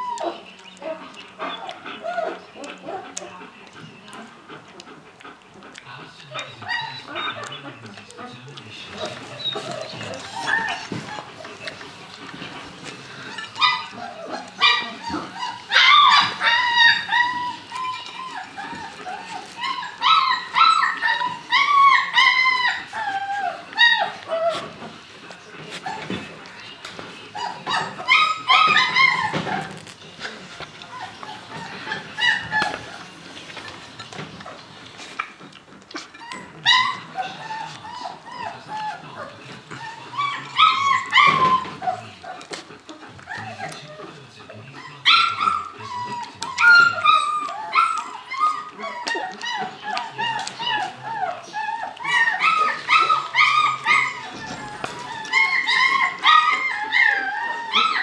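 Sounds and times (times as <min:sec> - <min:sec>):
puppies whining and yelping: 0:00.0 - 0:58.0.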